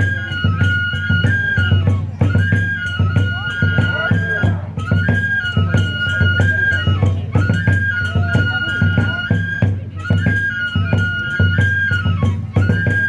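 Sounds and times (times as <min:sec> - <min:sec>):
bamboo flute phrase: 0:00.0 - 0:13.0
taiko drum beats: 0:00.0 - 0:13.0.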